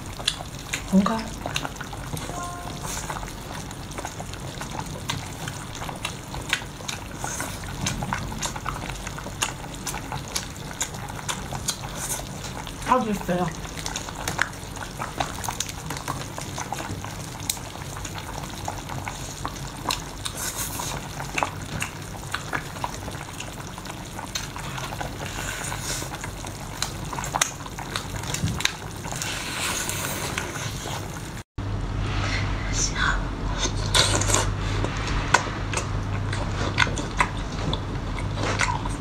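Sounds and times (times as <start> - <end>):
wet chewing: 0.0 - 2.2, 3.9 - 12.7, 13.7 - 31.2, 33.9 - 39.0.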